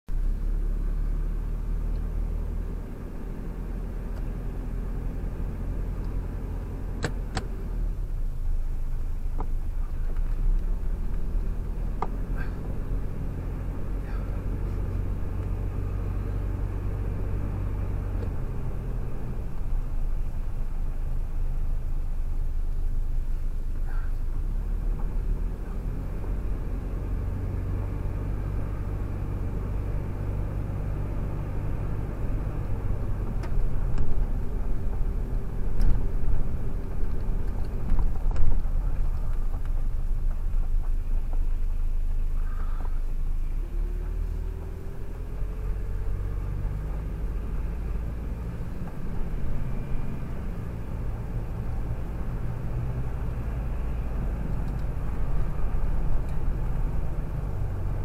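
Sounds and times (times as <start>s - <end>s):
engine and tyre road rumble: 0.0s - 58.0s.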